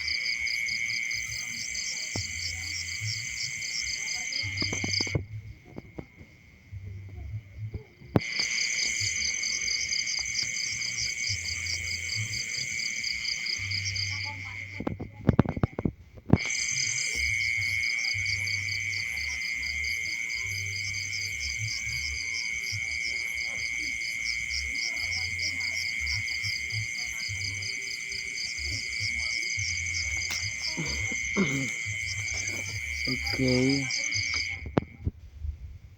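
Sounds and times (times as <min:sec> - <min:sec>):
insects trilling: 0:00.0 - 0:06.6, 0:08.2 - 0:34.9.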